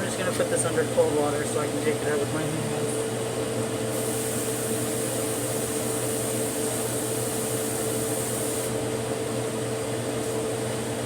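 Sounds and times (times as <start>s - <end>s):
fan-like hum: 0.0s - 11.0s.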